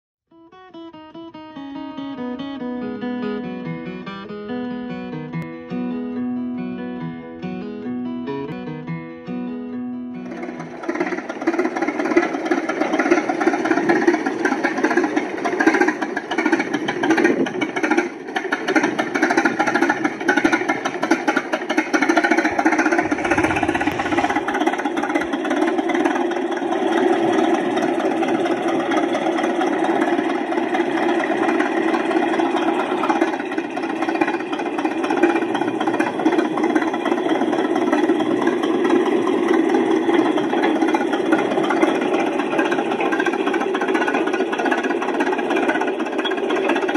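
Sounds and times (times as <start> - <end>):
bulldozer engine running: 3.5 - 46.9.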